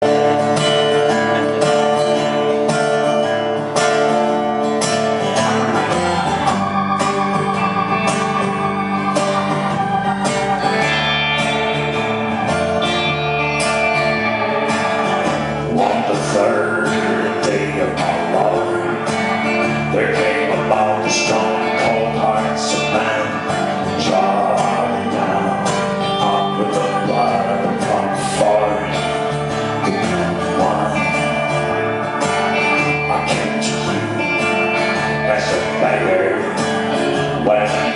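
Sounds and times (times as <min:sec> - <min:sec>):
guitar: 0:00.0 - 0:37.9
organ-like held tones: 0:00.0 - 0:37.9.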